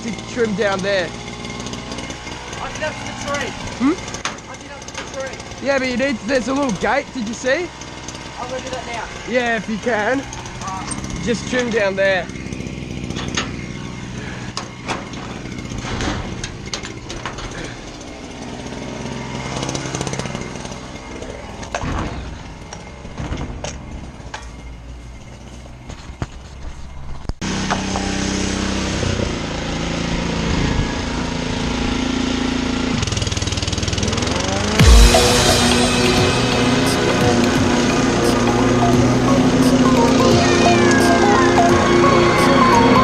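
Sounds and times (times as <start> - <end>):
small petrol engines running: 0.0 - 43.0.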